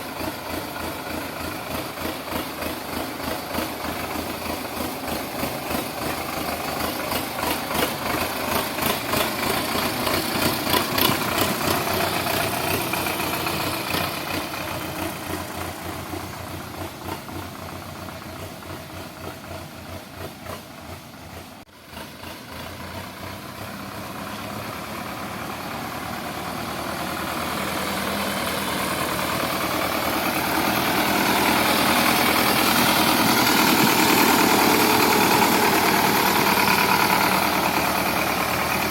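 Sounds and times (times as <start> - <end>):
tractor diesel engine pulsing: 0.0 - 38.9.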